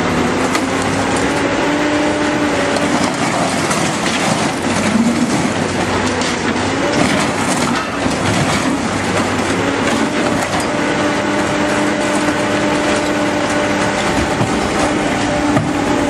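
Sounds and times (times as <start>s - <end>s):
excavator running: 0.0s - 16.0s
hydraulic whine: 0.0s - 16.0s
sheet metal crunching and creaking: 0.5s - 16.0s.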